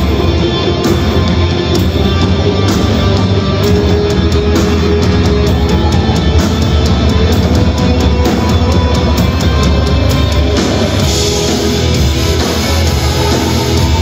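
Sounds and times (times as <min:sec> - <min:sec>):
electric guitars: 0:00.0 - 0:14.0
steady drum beat: 0:00.0 - 0:14.0.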